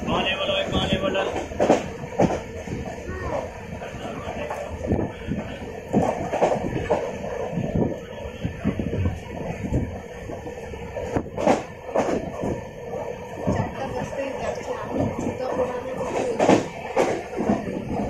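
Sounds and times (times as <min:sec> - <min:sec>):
train coach knocks and rattles: 0:00.0 - 0:18.0
train wheels rumbling on rails: 0:00.0 - 0:18.0.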